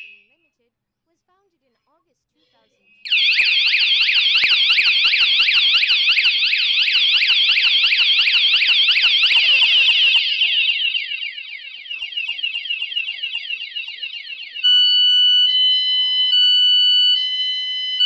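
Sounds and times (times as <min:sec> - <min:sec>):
car alarm siren warbling: 0:03.1 - 0:18.0.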